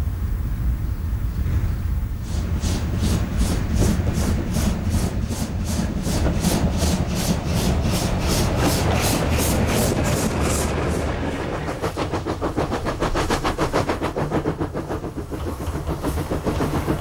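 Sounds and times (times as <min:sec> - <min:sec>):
steam locomotive chuffing: 0:01.3 - 0:17.0.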